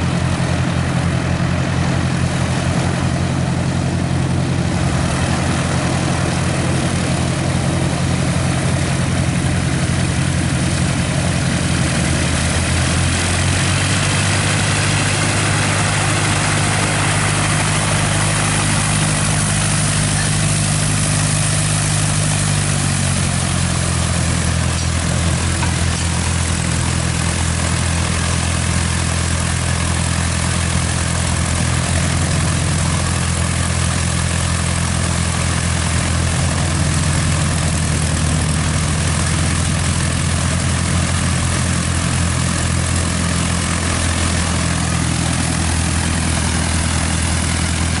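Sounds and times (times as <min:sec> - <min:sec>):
light aircraft engine idling: 0:00.0 - 0:48.0.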